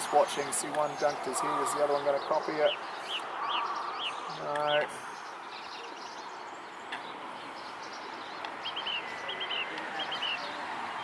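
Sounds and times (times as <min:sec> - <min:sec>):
outdoor background hiss: 0:00.0 - 0:11.0
small birds chirping: 0:00.0 - 0:11.0.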